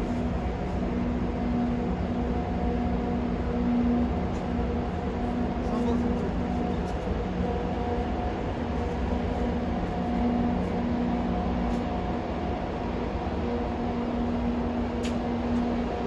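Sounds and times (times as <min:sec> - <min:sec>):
electric train rumbling: 0:00.0 - 0:16.0
faint train hum: 0:00.0 - 0:16.0.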